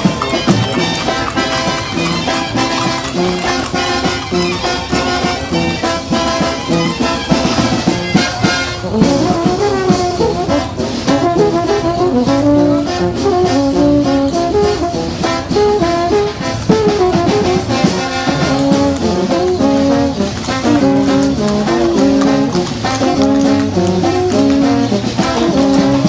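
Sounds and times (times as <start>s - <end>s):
lively brass music with beat: 0.0s - 26.0s.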